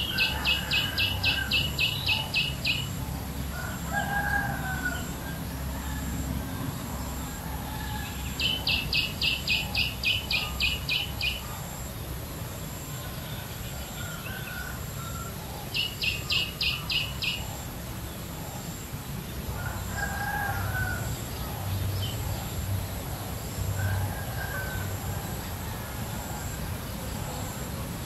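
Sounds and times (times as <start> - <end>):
low background noise: 0.0 - 28.0.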